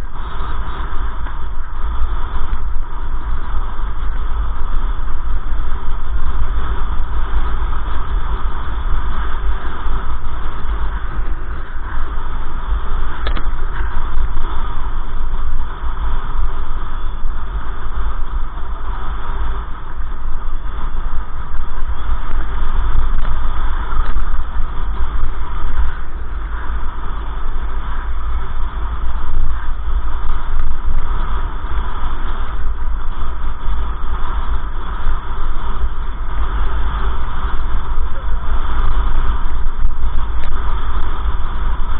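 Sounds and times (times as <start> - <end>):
vehicle engine tyre and wind rumble: 0.0 - 41.9.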